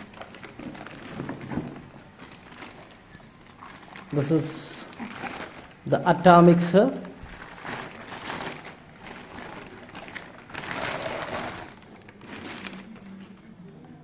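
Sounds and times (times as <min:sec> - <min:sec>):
packaging rustling and crinkling: 0:00.0 - 0:13.7.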